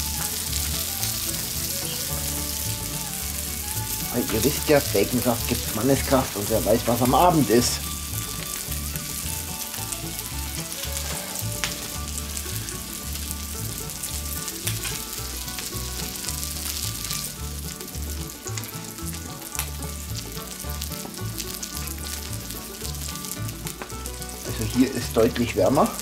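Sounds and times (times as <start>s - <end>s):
fat popping: 0.0s - 24.6s
fat sizzling on hot plate: 0.0s - 26.0s.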